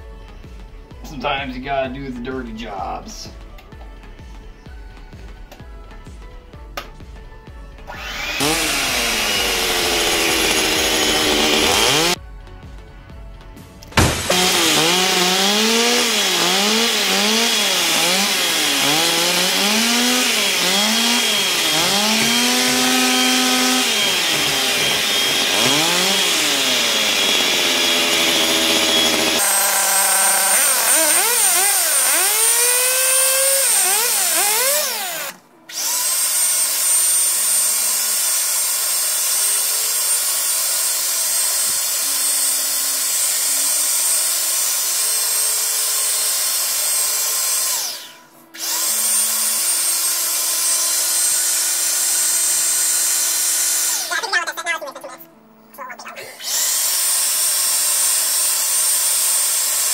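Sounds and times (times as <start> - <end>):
electric hand mixer running: 7.9 - 12.2, 14.0 - 54.2, 56.4 - 59.9.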